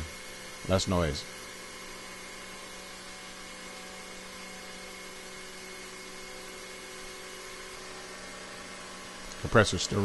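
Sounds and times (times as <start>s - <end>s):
air compressor running: 0.0s - 10.0s
milling machine spindle cutting metal: 0.0s - 10.0s.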